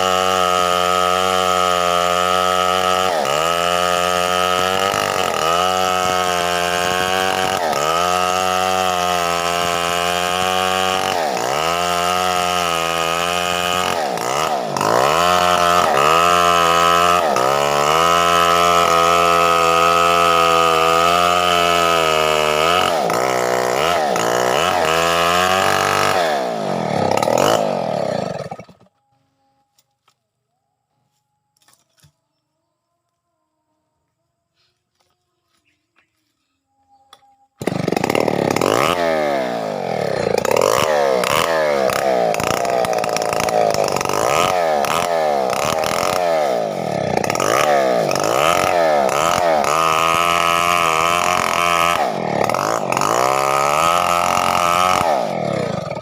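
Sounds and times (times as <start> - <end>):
chainsaw cutting through trunk: 0.0 - 28.9, 37.6 - 56.0.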